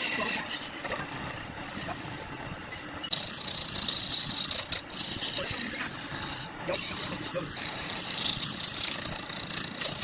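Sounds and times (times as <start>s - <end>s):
wood lathe whining: 0.0s - 10.0s.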